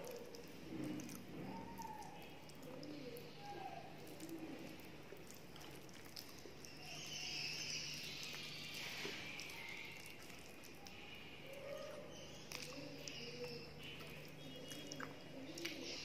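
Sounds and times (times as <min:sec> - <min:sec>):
chewing: 0:00.0 - 0:16.0
fingers squishing food: 0:00.0 - 0:16.0
low steady hum: 0:00.0 - 0:16.0.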